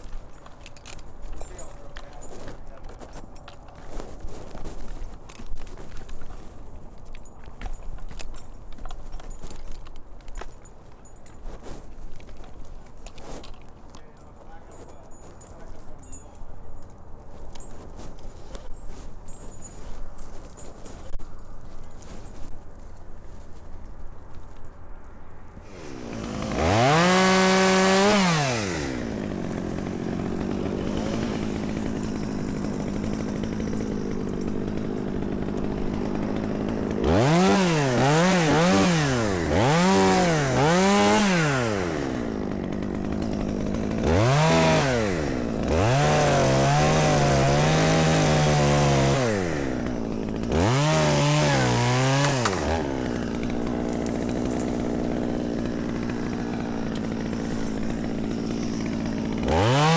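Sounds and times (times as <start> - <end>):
chainsaw idling and revving: 0.0 - 21.0, 25.5 - 59.9.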